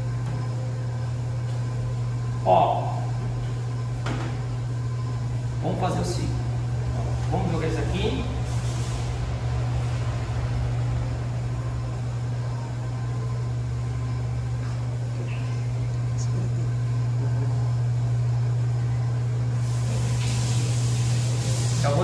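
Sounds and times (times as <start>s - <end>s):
kitchen ventilation hum: 0.0s - 22.0s.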